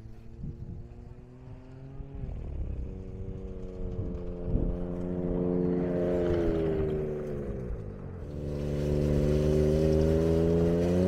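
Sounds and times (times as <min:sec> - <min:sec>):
low irregular rumble: 0:00.0 - 0:11.0
vehicle engine running: 0:00.0 - 0:11.0.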